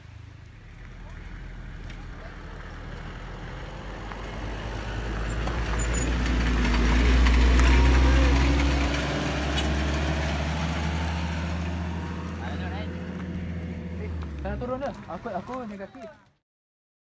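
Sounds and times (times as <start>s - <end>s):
pickup truck engine passing: 0.0s - 15.7s.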